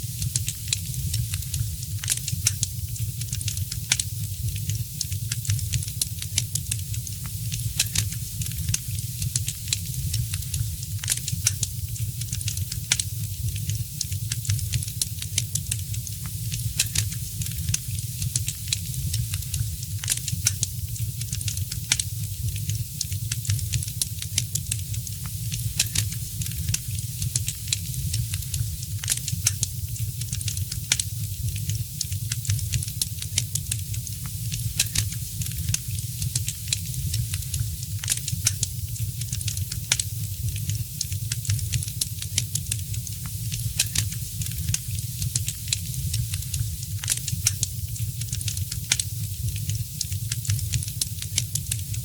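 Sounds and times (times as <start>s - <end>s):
fireplace fire crackling: 0.0s - 52.0s
low rumble of fire: 0.0s - 52.0s.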